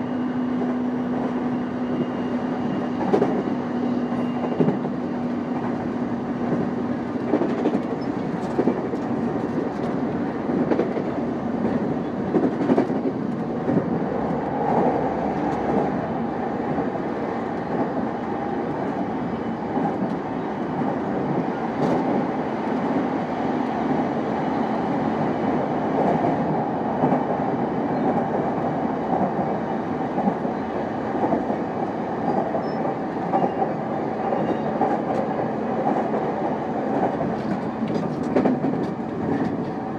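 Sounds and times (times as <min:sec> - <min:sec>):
electric train rolling: 0:00.0 - 0:39.9.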